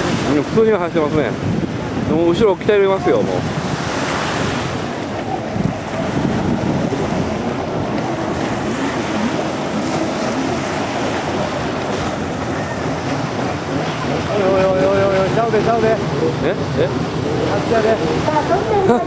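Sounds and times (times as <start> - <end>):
jet ski engines running: 0.0 - 19.0
wind buffeting microphone: 0.0 - 19.0.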